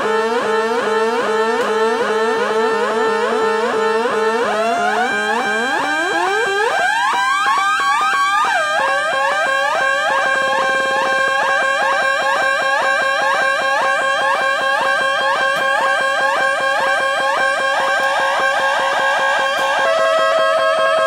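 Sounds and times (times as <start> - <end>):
warbling synth tones: 0.0 - 17.9.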